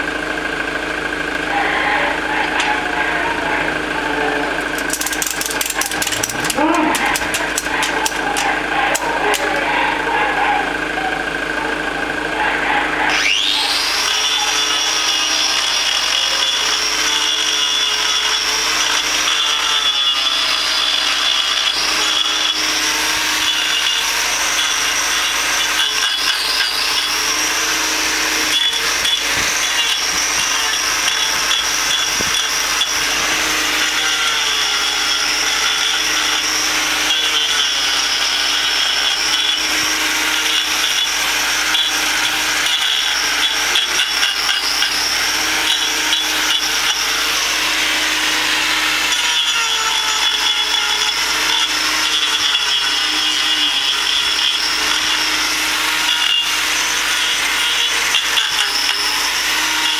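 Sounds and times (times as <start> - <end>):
motor humming: 0.0 - 59.9
power grinder cutting hoof: 0.0 - 59.9.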